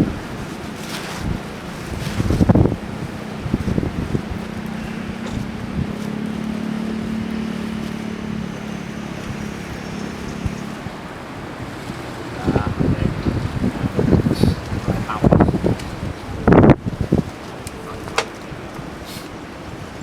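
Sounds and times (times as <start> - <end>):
distant jet engines droning: 0.0 - 20.0
wind buffeting microphone: 0.0 - 20.0.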